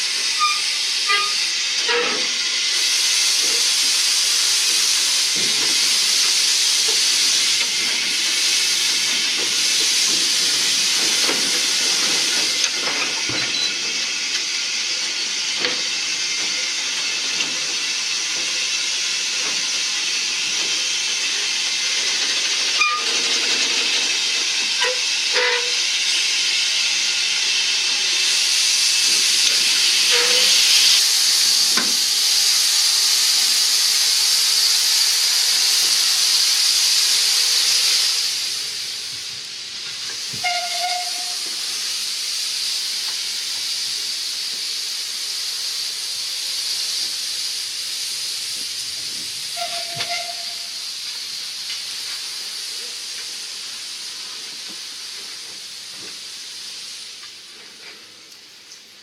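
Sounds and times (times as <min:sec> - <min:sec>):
gas venting hiss: 0:00.0 - 0:59.0.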